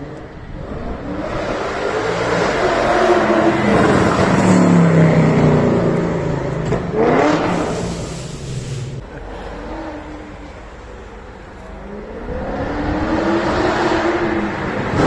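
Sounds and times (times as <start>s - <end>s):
car engine revving: 0.2s - 10.6s, 11.7s - 15.0s.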